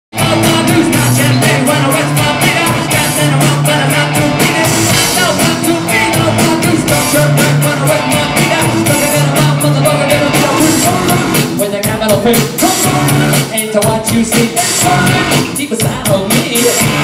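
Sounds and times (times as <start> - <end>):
bass line: 0.1 - 17.0
drum beat: 0.2 - 17.0
person singing: 0.2 - 17.0.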